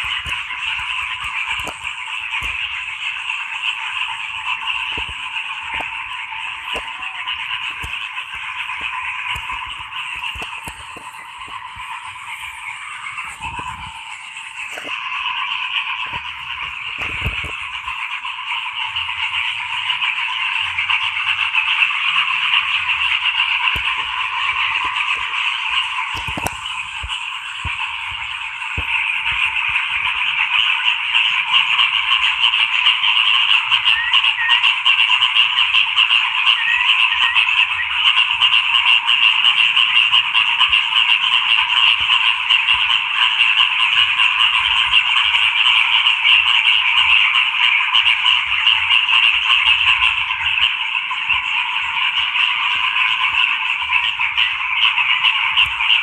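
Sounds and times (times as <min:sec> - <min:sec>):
frogs croaking chorus: 0:00.0 - 0:56.0.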